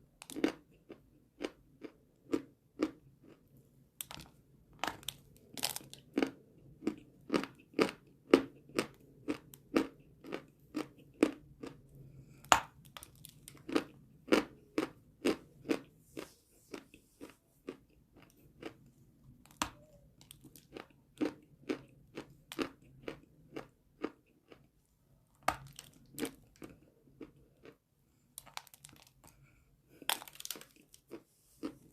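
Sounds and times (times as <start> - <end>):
crunching and chewing: 0.2 - 31.9.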